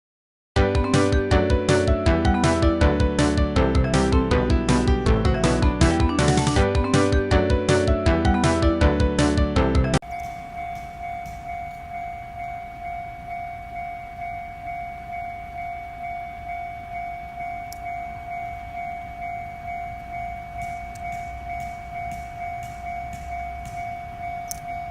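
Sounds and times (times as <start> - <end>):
level crossing warning bell: 0.6 - 24.9.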